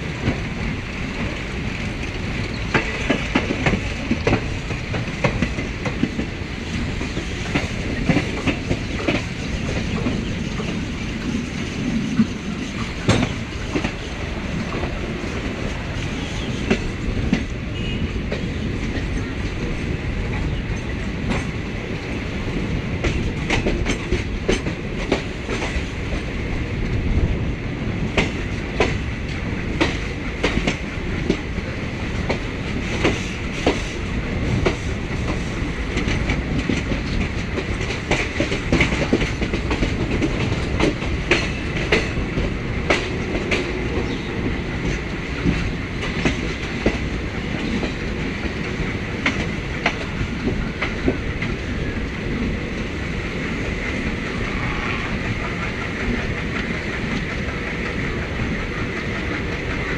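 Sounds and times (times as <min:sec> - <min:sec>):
train wheels rumbling on track: 0:00.0 - 0:59.9
wheels clicking over rail joints: 0:00.2 - 0:27.3, 0:28.0 - 0:59.9.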